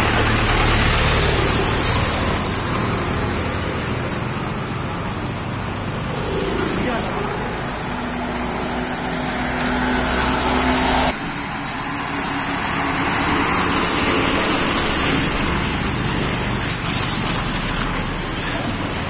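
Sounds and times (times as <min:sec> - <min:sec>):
steady engine hum: 0:00.0 - 0:19.0
vehicle engines and tyres: 0:00.0 - 0:19.0.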